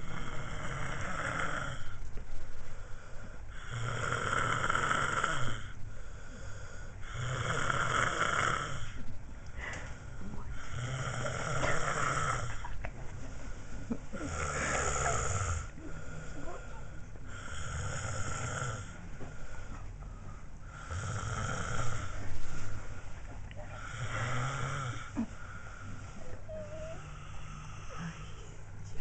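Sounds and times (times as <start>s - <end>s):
slow regular snoring: 0.0s - 2.0s, 2.7s - 9.0s, 9.6s - 12.6s, 13.4s - 28.8s.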